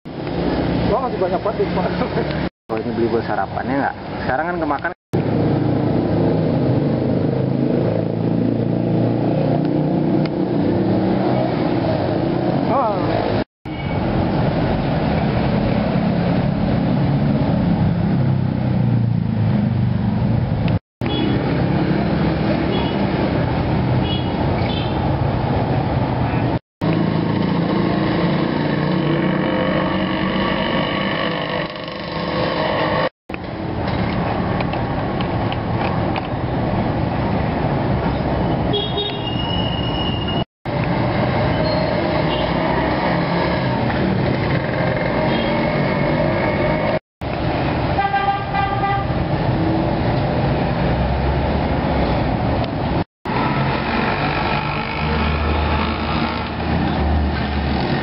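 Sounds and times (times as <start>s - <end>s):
road traffic: 0.1s - 58.0s.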